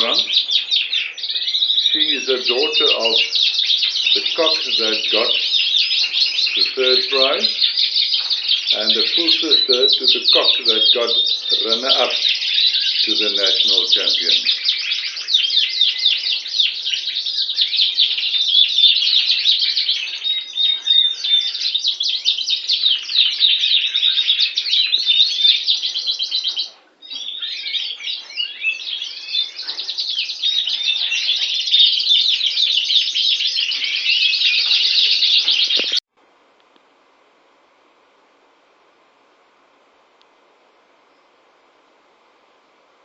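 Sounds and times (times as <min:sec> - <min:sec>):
canary trills and chirps: 0:00.0 - 0:36.0.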